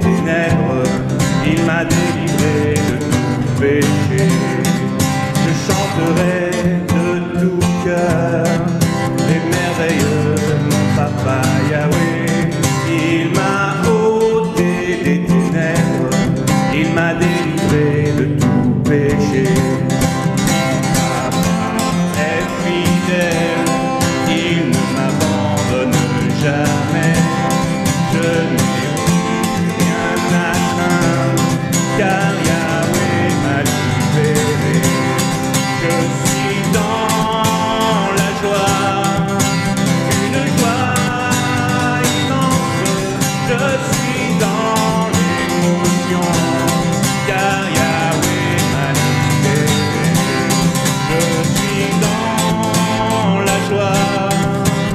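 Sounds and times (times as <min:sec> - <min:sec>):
acoustic guitar strumming: 0:00.0 - 0:54.9
man singing worship song: 0:00.0 - 0:54.9.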